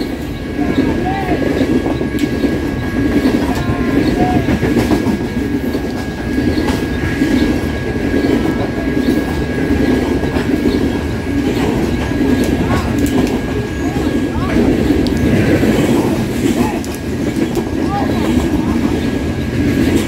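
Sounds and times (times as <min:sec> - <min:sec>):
clickety-clack over rail joints: 0:00.0 - 0:20.0
train wheels rumbling on rails: 0:00.0 - 0:20.0.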